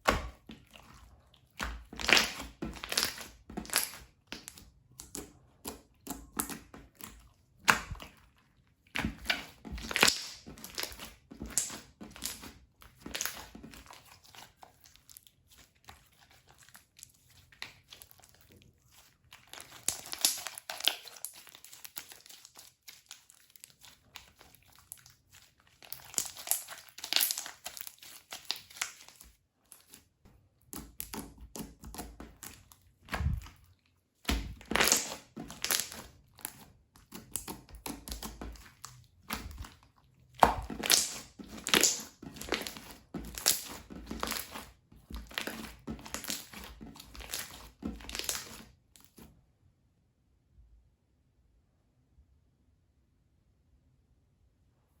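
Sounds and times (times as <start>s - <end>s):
slime being kneaded: 0.0s - 49.3s.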